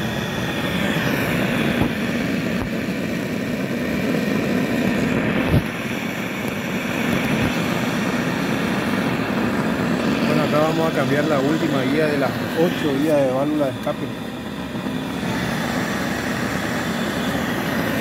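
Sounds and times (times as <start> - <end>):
gas torch roaring: 0.0 - 18.0.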